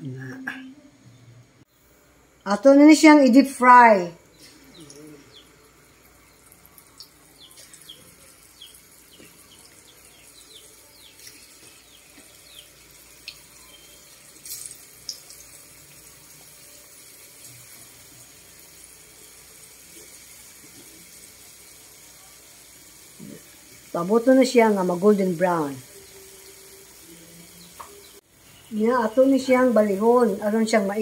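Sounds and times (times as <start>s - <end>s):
dough sizzling in hot oil: 4.4s - 30.8s.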